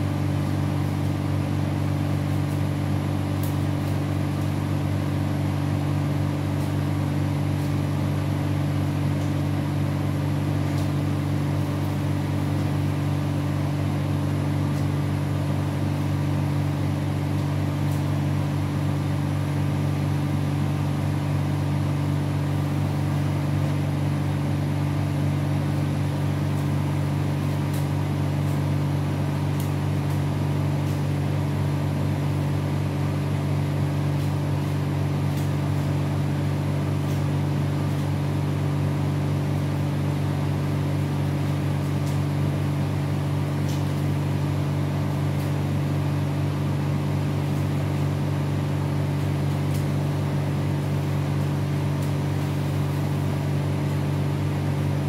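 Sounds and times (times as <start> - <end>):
cooling unit humming: 0.0 - 55.0.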